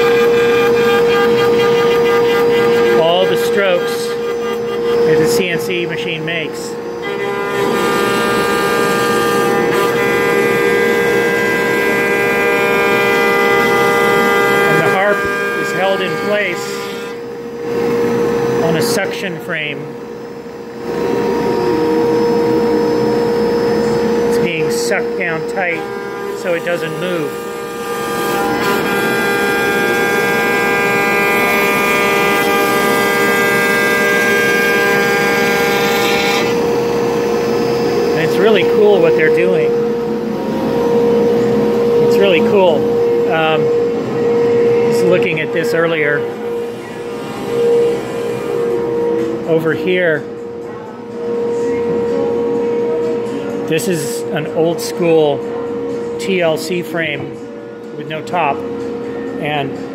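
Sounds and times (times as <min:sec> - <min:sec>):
router spindle whining: 0:00.0 - 0:53.6
dust extraction running: 0:00.0 - 0:59.9.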